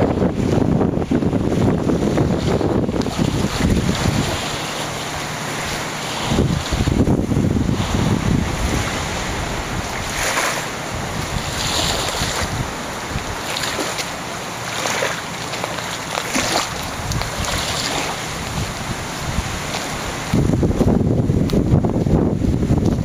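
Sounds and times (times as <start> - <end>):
palm fronds and brush rustling: 0.0 - 23.0
wind buffeting microphone: 0.0 - 23.0.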